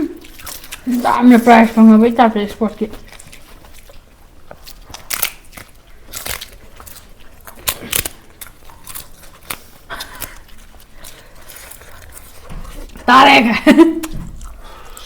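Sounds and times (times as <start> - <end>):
crisp food crunching: 0.0 - 13.1.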